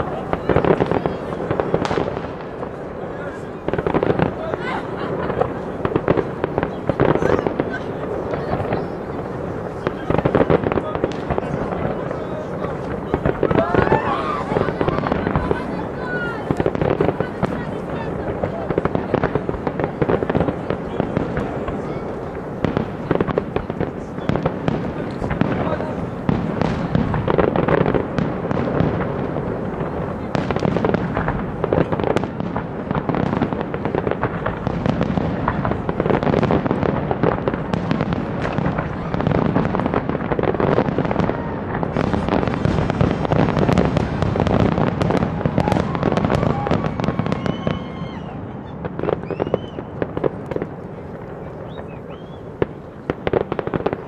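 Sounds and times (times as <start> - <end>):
fireworks bangs and crackling: 0.0 - 54.0
fireworks whistling: 0.0 - 54.0.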